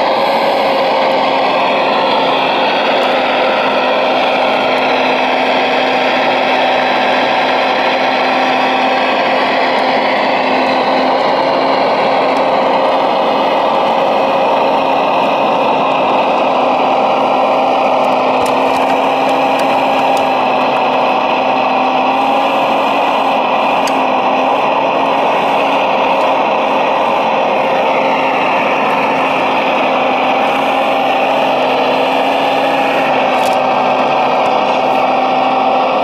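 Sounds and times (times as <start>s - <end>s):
electric motor whine: 0.0s - 36.0s.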